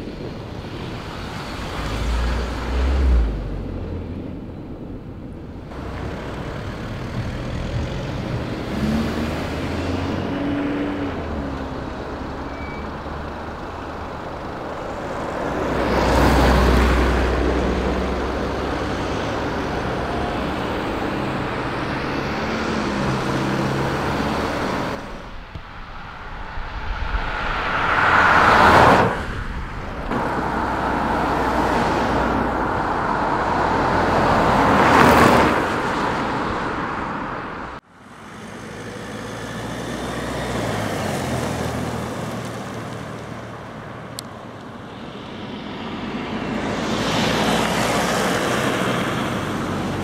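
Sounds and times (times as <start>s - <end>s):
car engine passing: 5.7s - 50.0s.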